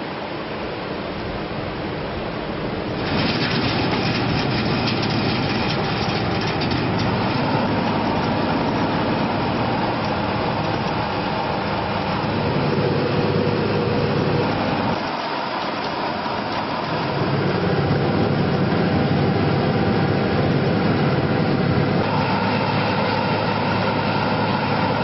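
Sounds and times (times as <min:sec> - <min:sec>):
faint steady whine: 0:00.0 - 0:25.0
heavy machinery din: 0:02.8 - 0:25.0.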